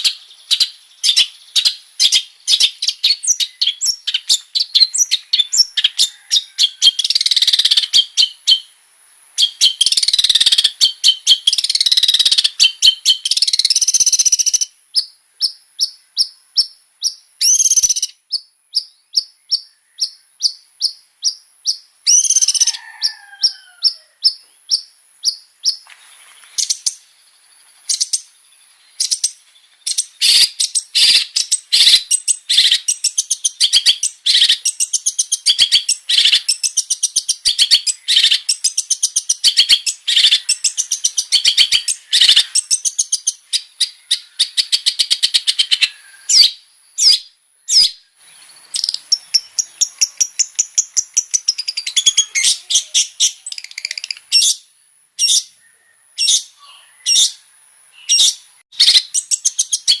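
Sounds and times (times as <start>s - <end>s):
bird singing fast chatter: 0.0s - 8.7s, 9.4s - 25.8s, 27.9s - 55.6s, 58.0s - 60.0s.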